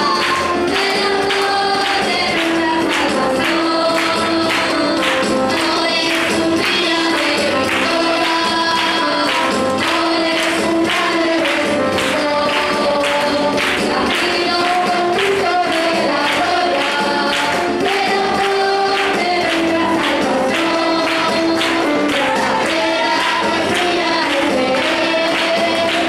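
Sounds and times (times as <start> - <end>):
group of voices singing: 0.0 - 26.0
tambourine shaken and struck: 0.0 - 26.0.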